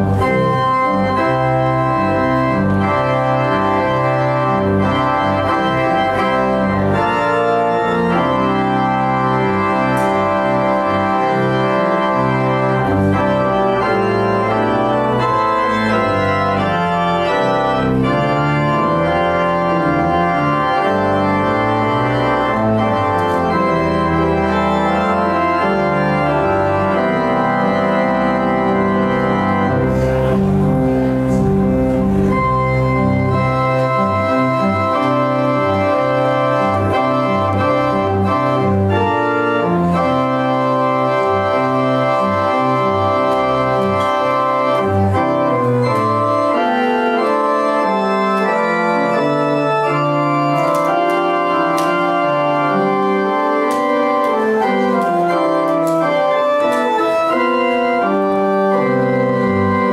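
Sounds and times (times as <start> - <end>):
organ music: 0.0 - 59.9.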